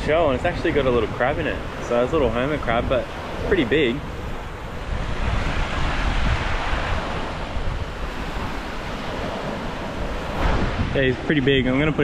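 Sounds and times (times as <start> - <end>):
small waves washing onto beach: 0.0 - 12.0
wind buffeting microphone: 0.0 - 12.0.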